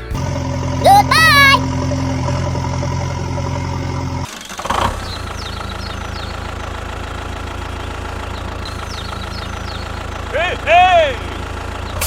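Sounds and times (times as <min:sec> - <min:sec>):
small engine idling: 0:00.0 - 0:00.8, 0:01.6 - 0:12.0.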